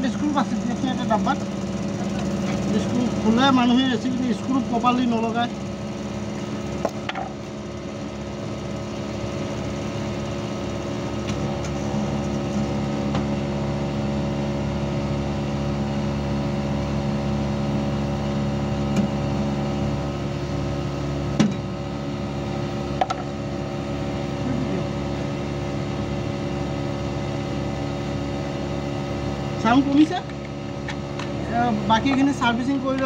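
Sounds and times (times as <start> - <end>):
air conditioner unit humming: 0.0 - 33.0.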